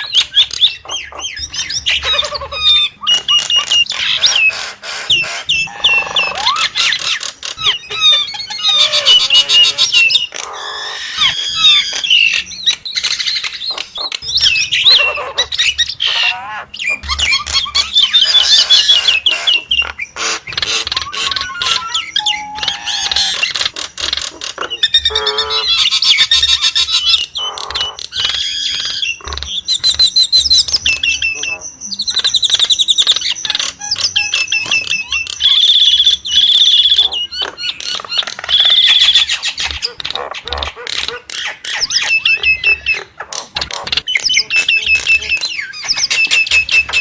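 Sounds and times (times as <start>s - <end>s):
myna calling: 0.0s - 47.0s.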